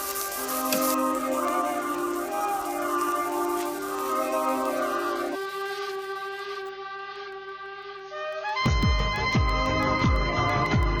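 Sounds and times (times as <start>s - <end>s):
sustained chord background music: 0.1s - 11.0s.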